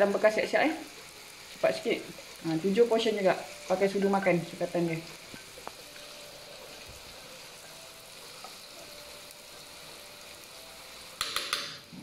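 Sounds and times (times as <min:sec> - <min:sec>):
paste sizzling in oil: 0:00.0 - 0:12.0.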